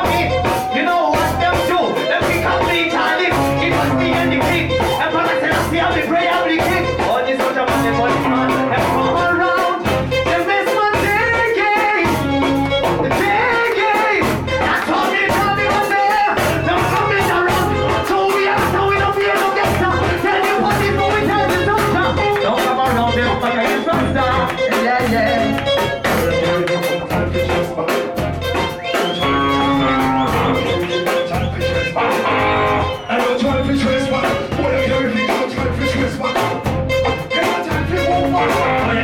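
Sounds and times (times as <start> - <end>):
bass and drum beat: 0.0 - 39.0
person singing into microphone: 0.0 - 39.0
reggae band playing: 0.0 - 39.0.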